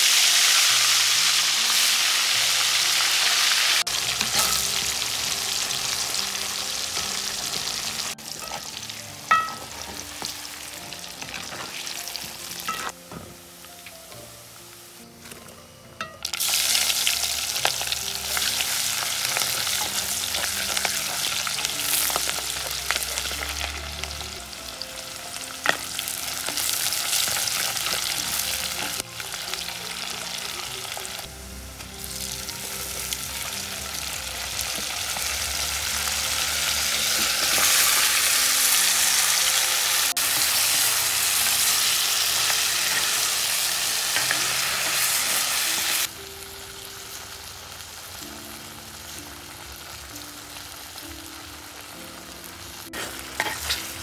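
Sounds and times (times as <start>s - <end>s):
vegetables sizzling in hot oil: 0.0s - 15.4s, 16.2s - 54.0s.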